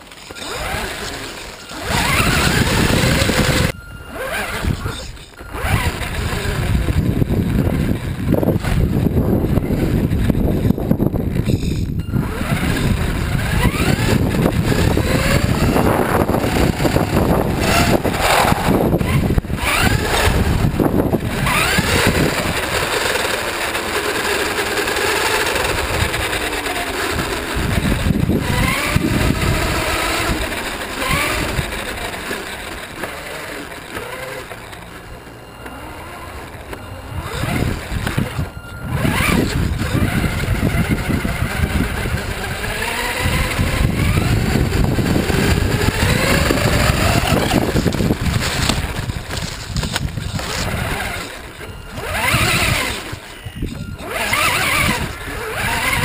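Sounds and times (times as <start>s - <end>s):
rc car motor whining: 0.0s - 56.0s
wind and tyre noise: 0.0s - 56.0s.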